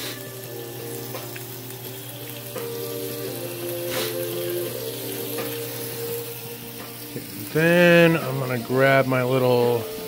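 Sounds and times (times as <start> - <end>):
meat and vegetables sizzling in pan: 0.0 - 10.0.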